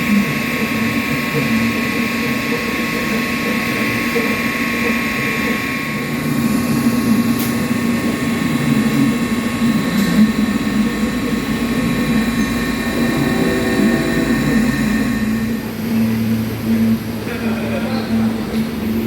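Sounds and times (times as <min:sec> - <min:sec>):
welding arc buzzing: 0:00.0 - 0:17.1.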